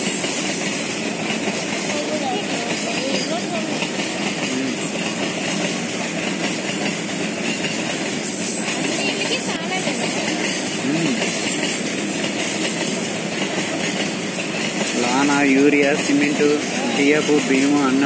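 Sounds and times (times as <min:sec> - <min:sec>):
freight train wheels on track: 0:00.0 - 0:18.0.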